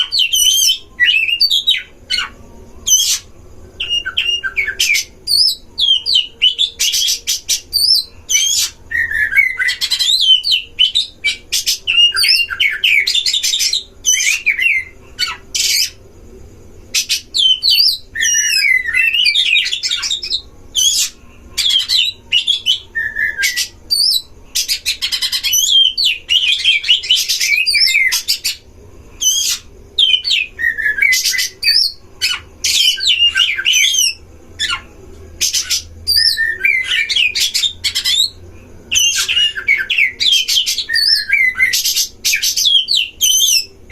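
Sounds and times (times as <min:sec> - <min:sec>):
songbird whistled song: 0:00.0 - 0:43.9.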